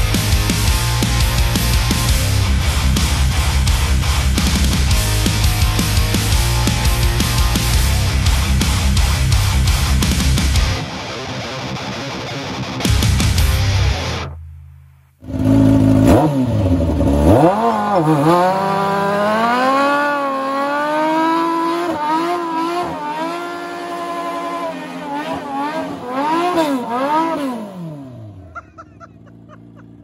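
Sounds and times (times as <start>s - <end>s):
buggy engine revving hard: 0.0s - 10.6s, 15.2s - 30.0s.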